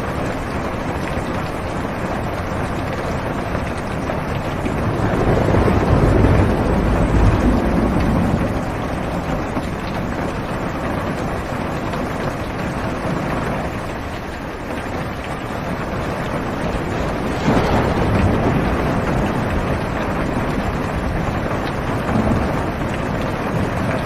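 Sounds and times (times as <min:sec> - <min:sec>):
rain drumming on car roof: 0:00.0 - 0:24.0
thunder rumble: 0:02.0 - 0:13.8, 0:15.2 - 0:24.0.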